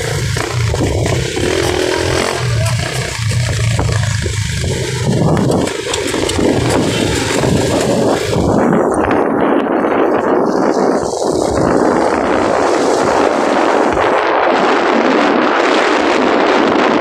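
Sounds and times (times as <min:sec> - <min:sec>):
vehicle engine hum: 0:00.0 - 0:17.0
wet road noise: 0:00.0 - 0:17.0
wind rushing: 0:00.0 - 0:17.0.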